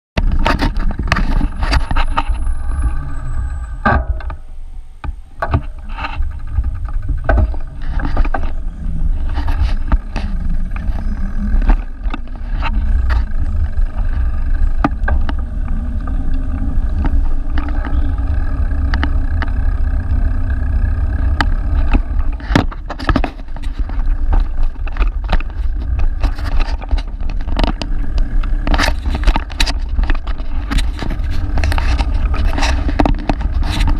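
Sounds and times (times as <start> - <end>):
clicks and knocks from rough pavement: 0.2 - 33.9
passing traffic: 0.2 - 33.9
wind noise on microphone: 0.2 - 33.9.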